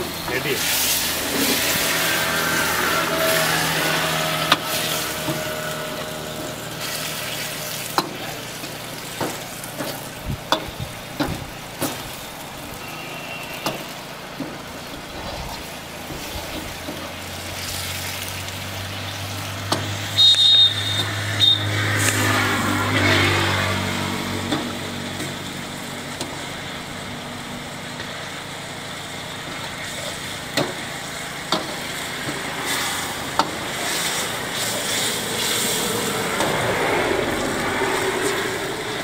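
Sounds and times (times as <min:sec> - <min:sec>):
food sizzling in a wok: 0:00.0 - 0:39.0.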